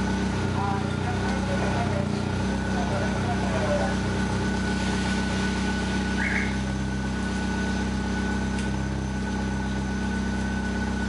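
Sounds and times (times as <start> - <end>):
car exhaust idling: 0.0 - 11.0.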